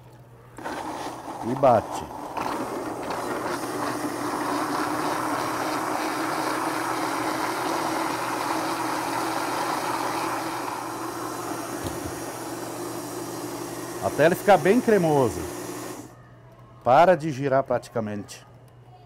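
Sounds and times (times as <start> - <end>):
blender motor humming: 0.6 - 16.1.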